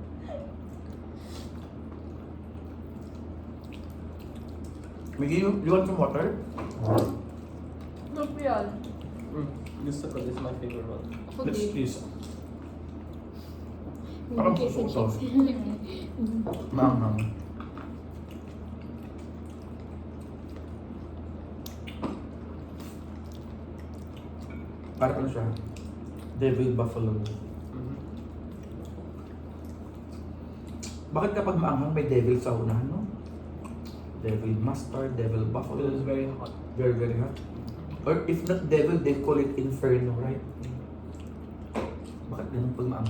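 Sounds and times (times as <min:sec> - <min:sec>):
low room hum: 0:00.0 - 0:43.0
wet chewing clicks: 0:00.6 - 0:31.6, 0:32.3 - 0:39.8, 0:40.4 - 0:43.0.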